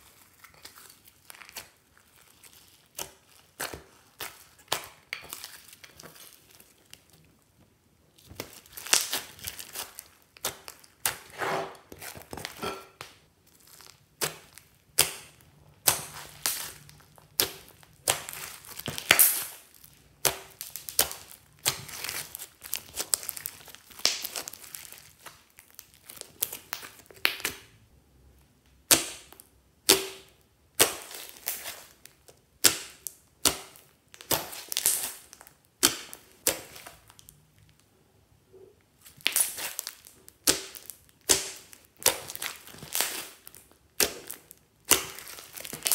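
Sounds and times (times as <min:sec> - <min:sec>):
slime squishing with crackles: 0:00.0 - 0:27.9, 0:28.6 - 0:45.9.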